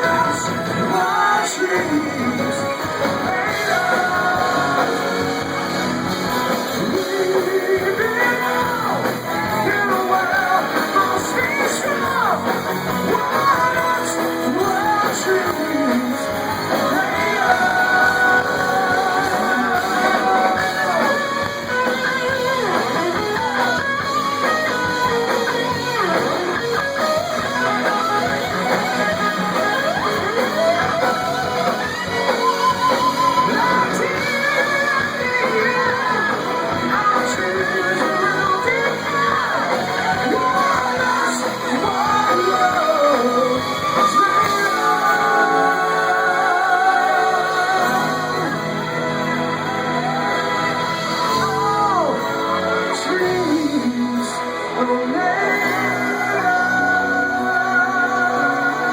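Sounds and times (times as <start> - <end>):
electric guitar playing: 0.0 - 58.9
person singing: 0.0 - 58.9.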